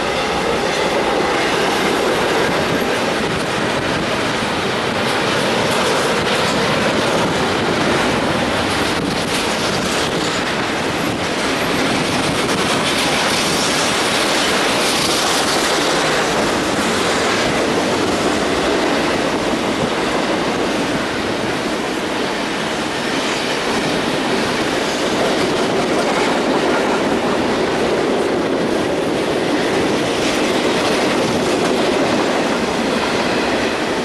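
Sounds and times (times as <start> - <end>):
train wheels rolling on rails: 0.0 - 34.0.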